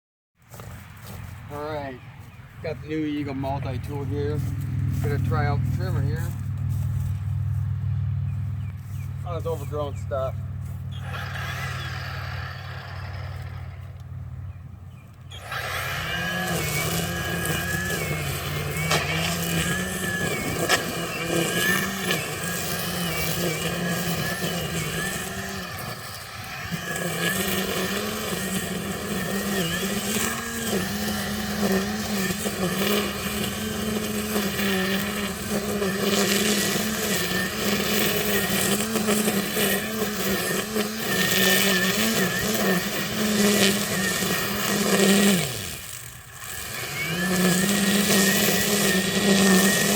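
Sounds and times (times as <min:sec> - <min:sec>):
trimmer line striking stems: 0:00.4 - 0:07.4, 0:08.6 - 0:49.9
string trimmer whine: 0:00.4 - 0:49.9.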